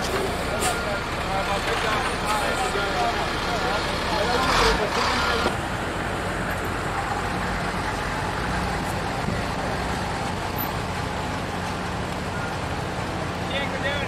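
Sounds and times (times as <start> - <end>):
city street noise: 0.0 - 14.0
vehicle engines idling: 0.0 - 14.0.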